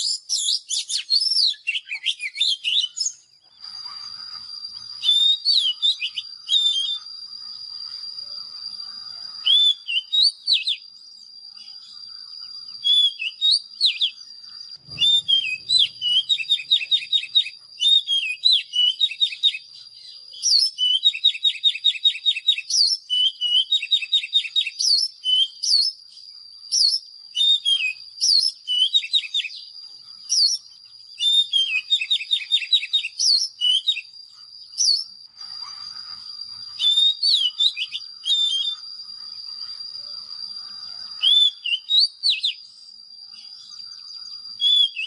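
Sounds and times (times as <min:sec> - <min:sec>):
bird song trills and whistles: 0:00.0 - 0:45.0.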